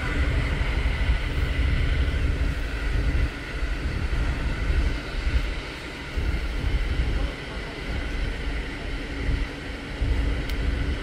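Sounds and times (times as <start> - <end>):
train hiss: 0.0 - 11.0
train wheels rumbling on rails: 0.0 - 11.0.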